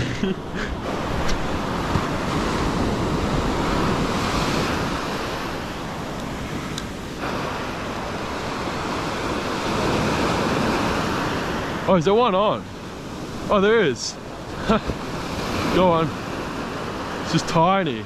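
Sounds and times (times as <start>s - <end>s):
wind buffeting microphone: 0.0s - 17.4s
small waves breaking on sand: 0.0s - 18.0s.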